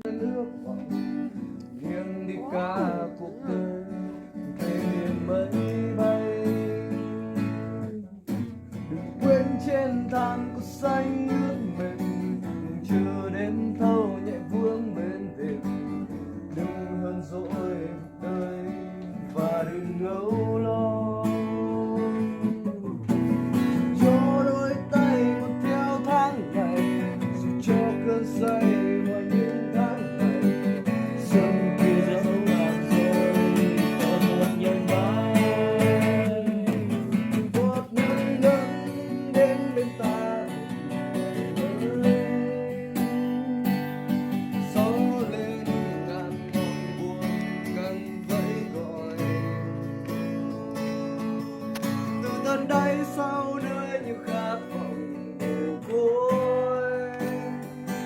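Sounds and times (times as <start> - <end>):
acoustic guitar strumming chords: 0.0 - 58.0.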